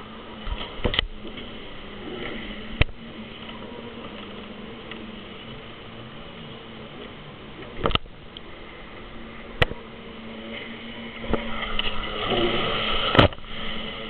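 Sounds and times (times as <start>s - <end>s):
jet ski engine running: 0.0s - 14.0s.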